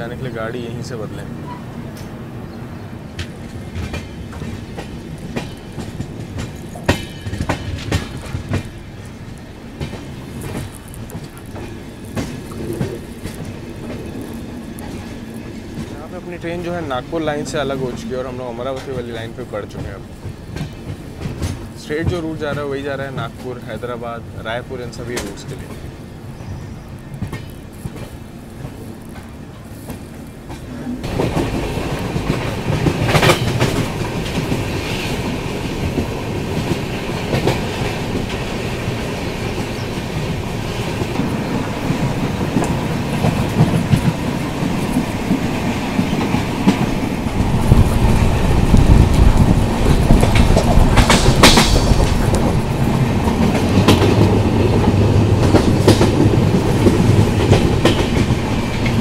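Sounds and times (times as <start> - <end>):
clickety-clack of rail joints: 0.0 - 2.2, 3.0 - 59.0
train wheels clattering on rails: 3.0 - 59.0.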